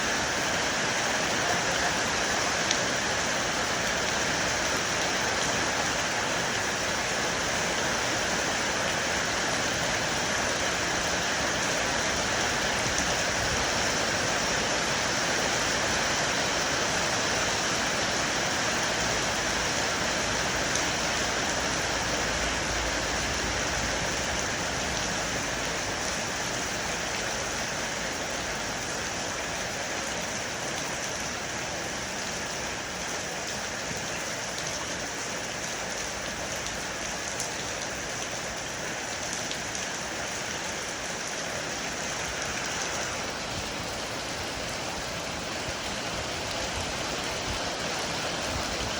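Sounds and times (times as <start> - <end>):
heavy rain on air conditioner: 0.0 - 48.9.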